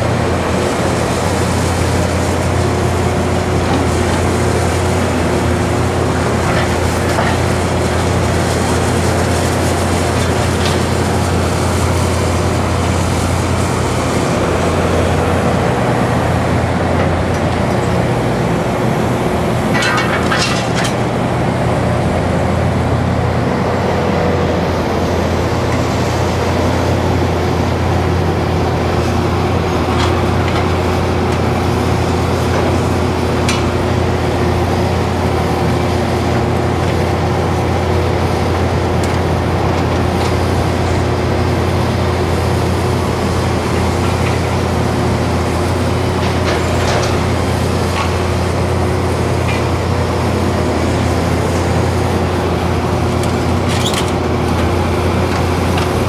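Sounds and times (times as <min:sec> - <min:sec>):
diesel engine running steadily: 0:00.0 - 0:56.0.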